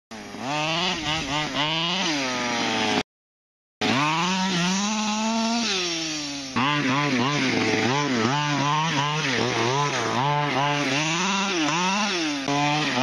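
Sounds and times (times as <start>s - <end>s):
small two-stroke engine revving: 0.1s - 3.0s, 3.8s - 13.0s.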